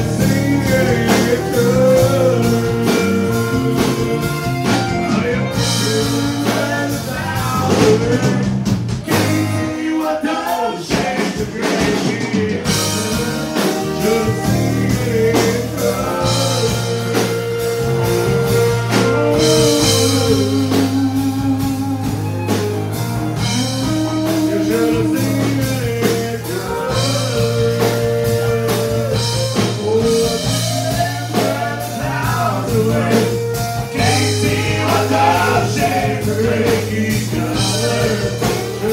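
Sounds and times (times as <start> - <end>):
fiddle melody: 0.0 - 7.8, 12.8 - 38.9
acoustic guitar: 0.0 - 38.9
drum kit: 0.0 - 38.9
electric bass: 0.0 - 38.9.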